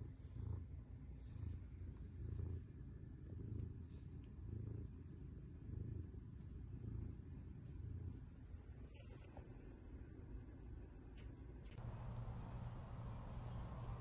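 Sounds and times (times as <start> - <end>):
cat purring: 0.0 - 9.8, 11.7 - 14.0.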